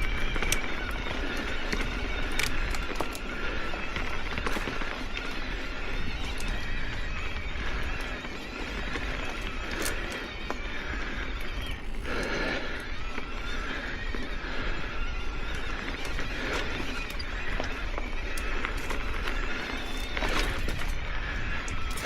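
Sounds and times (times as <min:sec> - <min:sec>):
bike clicks and rattles: 0:00.0 - 0:22.0
bike tyre and drivetrain noise: 0:00.0 - 0:22.0.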